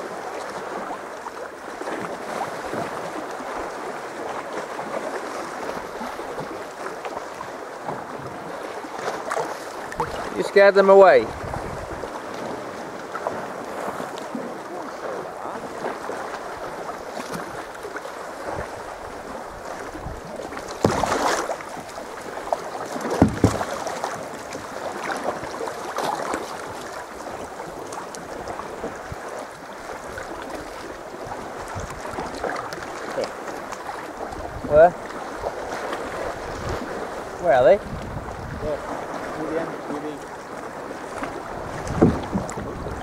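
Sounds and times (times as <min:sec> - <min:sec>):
water sloshing around kayak: 0:00.0 - 0:43.0
loud paddle splashes: 0:01.7 - 0:43.0.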